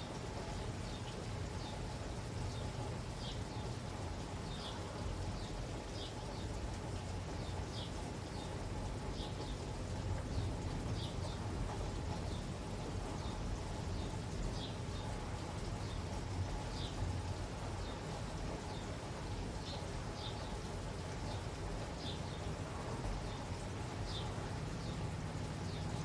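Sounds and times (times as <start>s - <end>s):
low steady rumble: 0.0s - 26.0s
steady rain falling: 0.0s - 26.0s.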